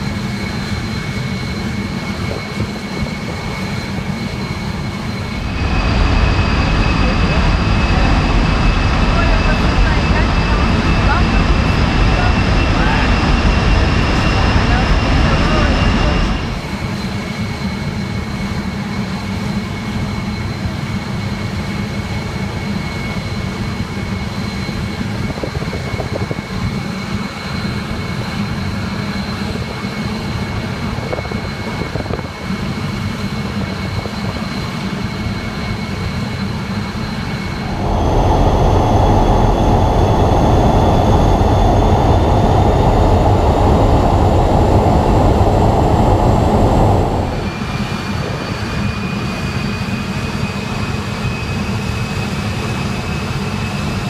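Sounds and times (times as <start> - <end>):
jet engine whine and rumble: 0.0 - 54.0.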